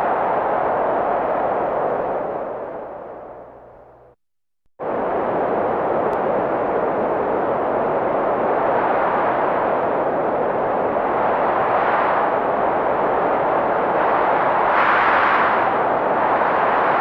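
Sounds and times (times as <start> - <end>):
blizzard wind blowing: 0.0 - 4.1, 4.8 - 17.0.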